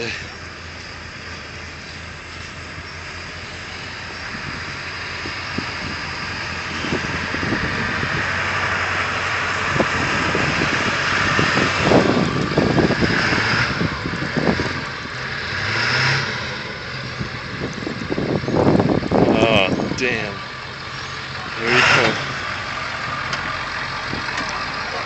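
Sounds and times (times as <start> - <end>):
car engine revving: 0.0 - 25.0
tyres spinning in snow: 0.0 - 25.0.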